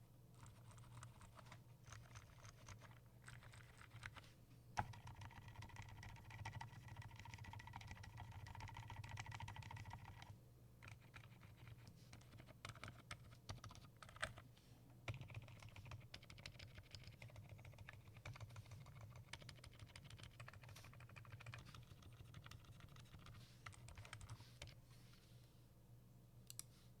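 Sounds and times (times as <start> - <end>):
typing on mechanical keyboard: 0.4 - 4.2, 4.8 - 14.4, 15.1 - 24.8.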